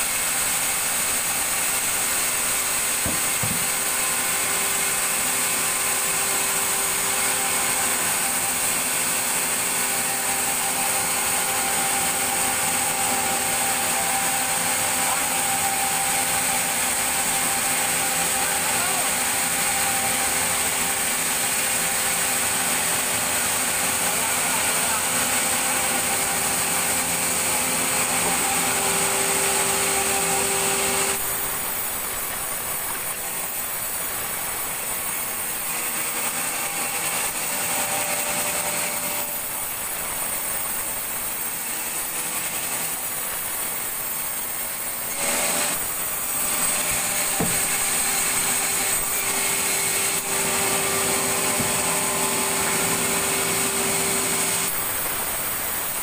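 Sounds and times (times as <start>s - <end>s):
sawmill saw cutting timber: 0.0s - 56.0s.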